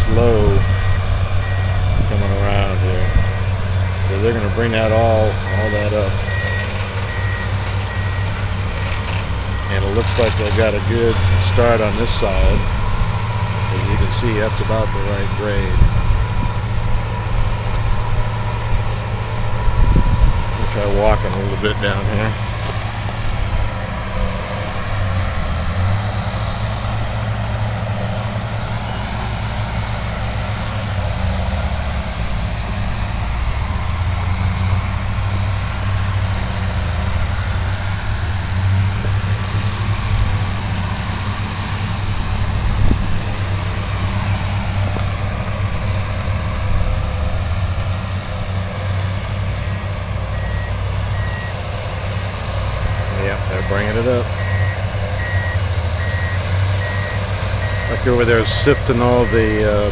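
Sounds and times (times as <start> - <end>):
heavy machinery engine drone: 0.0 - 59.9.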